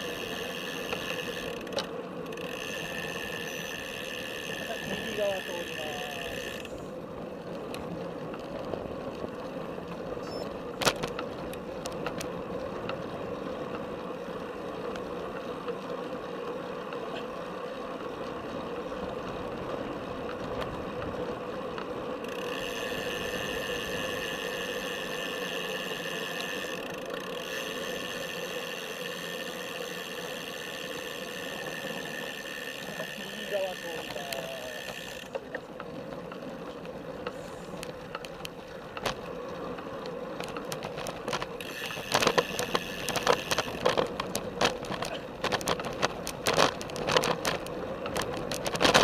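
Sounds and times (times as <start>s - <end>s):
bicycle tyre and drivetrain noise: 0.0s - 49.0s.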